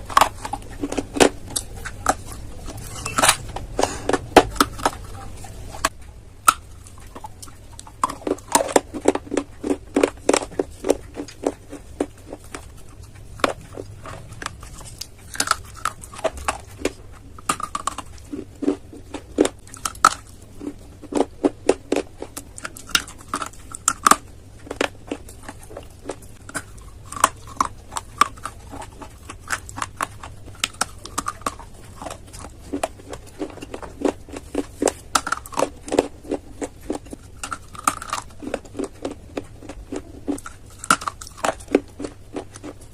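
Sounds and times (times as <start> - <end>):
crunchy chewing of hard clay: 0.0 - 42.9.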